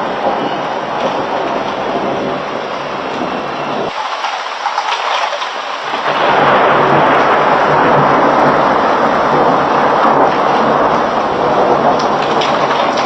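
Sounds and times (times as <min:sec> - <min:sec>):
heavy rain hissing: 0:00.0 - 0:13.0
low thunder rumble: 0:00.0 - 0:13.0.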